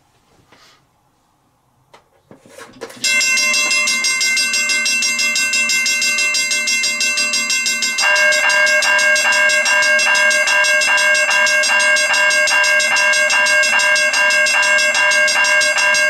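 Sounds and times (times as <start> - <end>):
crossing bell pulsed rings: 3.0 - 16.0
crossing bell rapid strikes: 3.0 - 16.0.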